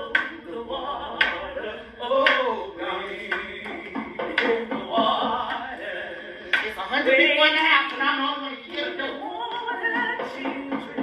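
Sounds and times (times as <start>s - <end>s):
actors' voices on stage: 0.0s - 11.0s
music: 0.0s - 11.0s.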